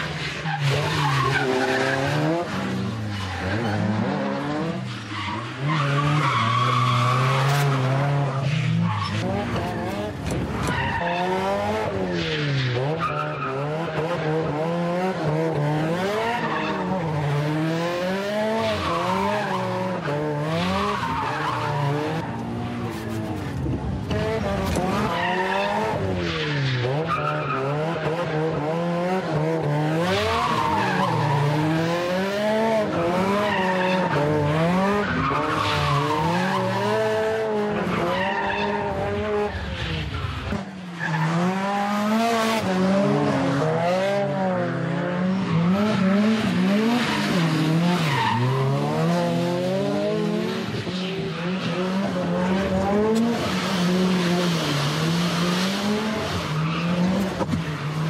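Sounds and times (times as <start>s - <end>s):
car engine revving: 0.0s - 58.0s
tyres skidding and squealing: 0.0s - 58.0s.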